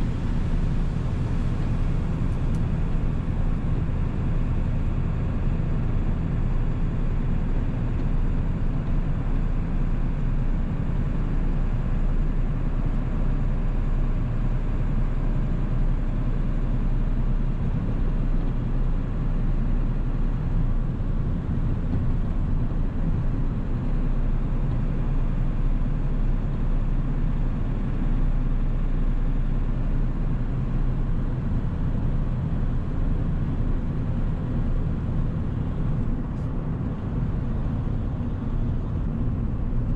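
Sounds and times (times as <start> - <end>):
diesel engine cruising: 0.0 - 39.9.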